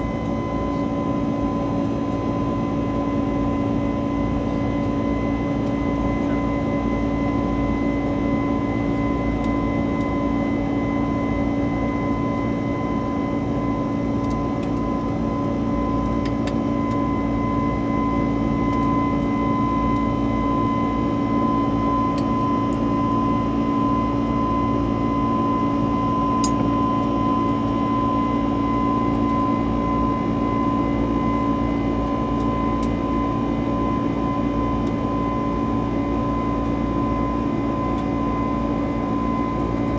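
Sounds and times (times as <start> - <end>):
airplane cabin drone: 0.0 - 39.9
constant whine: 0.0 - 39.9.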